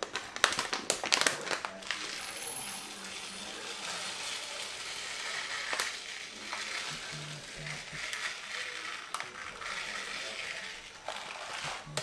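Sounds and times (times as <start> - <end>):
rice grains pouring: 0.1 - 12.0.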